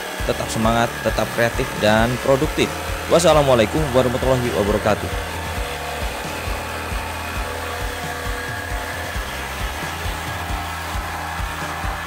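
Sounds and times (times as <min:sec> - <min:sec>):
background music with steady beat: 0:00.0 - 0:12.0
jigsaw cutting wood: 0:00.0 - 0:12.0.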